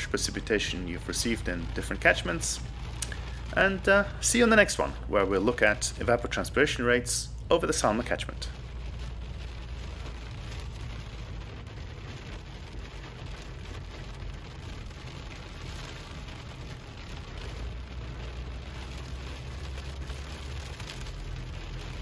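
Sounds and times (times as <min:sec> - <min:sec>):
car driving on wet road: 0:00.0 - 0:22.0
heavy rain on car windscreen: 0:00.0 - 0:22.0.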